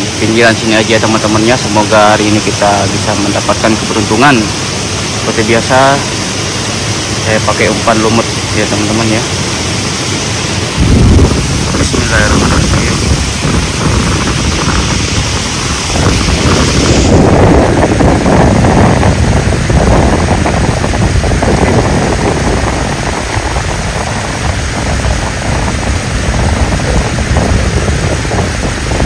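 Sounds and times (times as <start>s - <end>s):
water rushing over weir: 0.0s - 29.0s.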